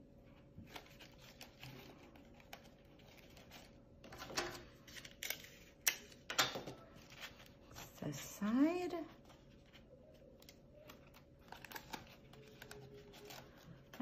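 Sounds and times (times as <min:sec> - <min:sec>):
paper rustling and crinkling: 0:00.6 - 0:14.0.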